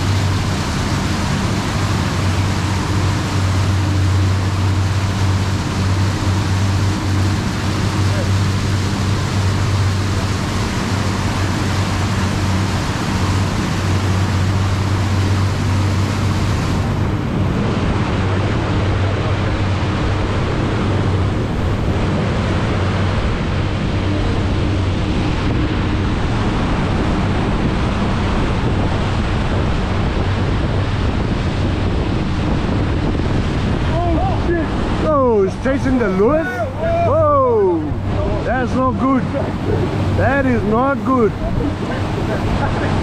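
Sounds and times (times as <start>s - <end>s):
boat engine humming: 0.0s - 43.0s
churning wake rushing: 0.0s - 43.0s
wind on microphone: 0.0s - 43.0s.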